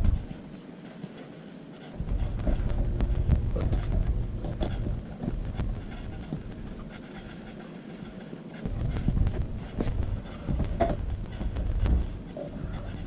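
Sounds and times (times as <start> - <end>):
puppy panting: 0.0 - 13.0.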